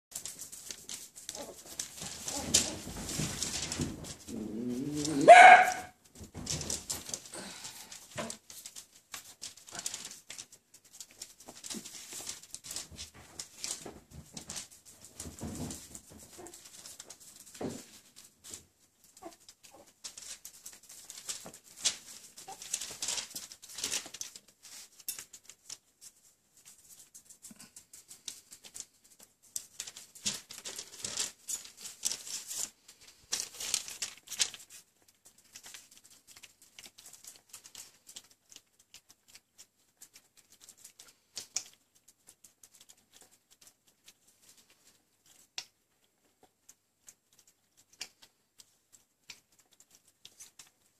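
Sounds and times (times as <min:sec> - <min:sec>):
puppies smacking and chewing: 0:00.1 - 0:50.9.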